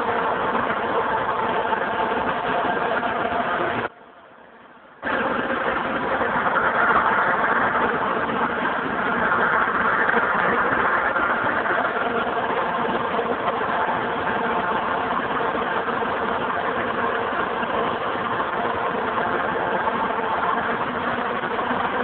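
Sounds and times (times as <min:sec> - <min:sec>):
steady engine running: 0:00.0 - 0:03.9, 0:05.0 - 0:22.0.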